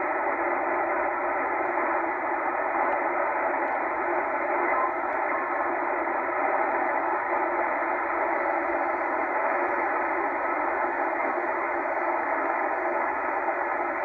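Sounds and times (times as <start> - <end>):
shortwave radio static hiss: 0.0 - 14.0.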